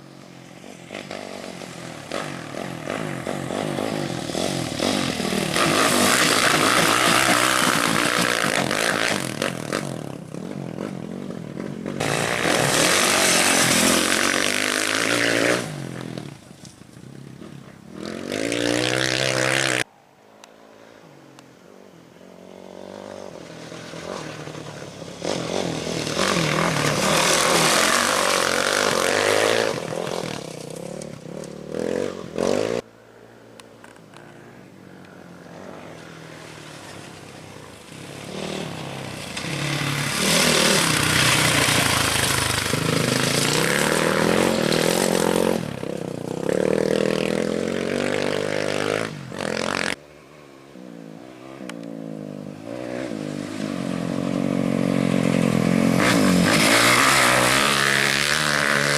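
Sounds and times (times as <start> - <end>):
race vehicle engines revving: 0.0 - 19.9, 22.2 - 32.9, 33.8 - 58.9.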